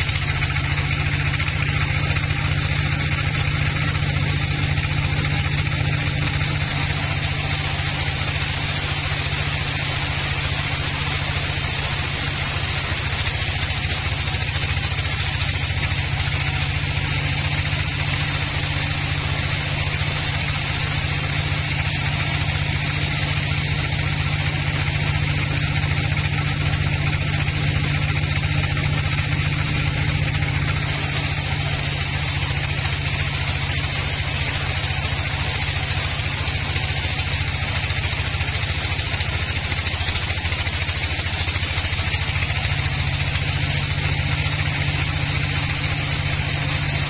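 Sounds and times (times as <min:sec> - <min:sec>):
low motor hum: 0:00.0 - 0:47.0
saw blade hissing through wood: 0:00.0 - 0:47.0.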